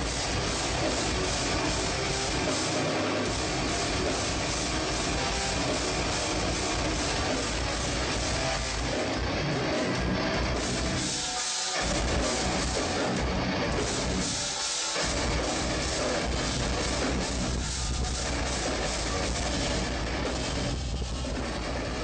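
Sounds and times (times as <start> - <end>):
heavy drums: 0.0 - 22.0
metal band playing live: 0.0 - 22.0.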